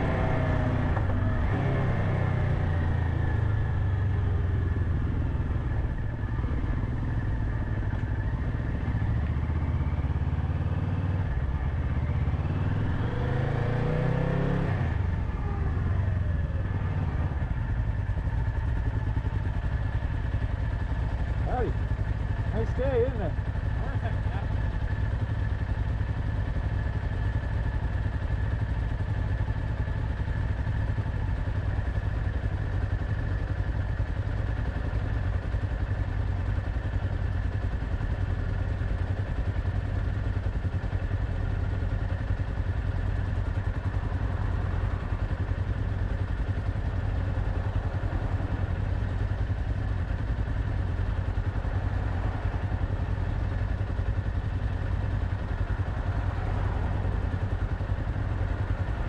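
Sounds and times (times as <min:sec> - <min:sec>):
motorcycle engine droning: 0:00.0 - 0:59.0.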